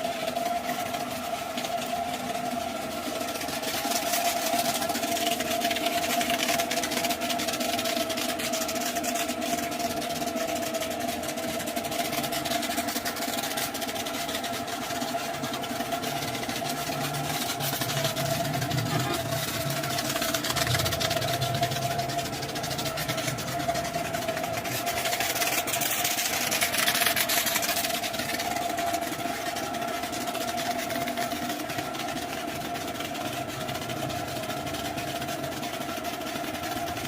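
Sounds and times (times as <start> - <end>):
pressure washer motor whine: 0.0 - 37.0.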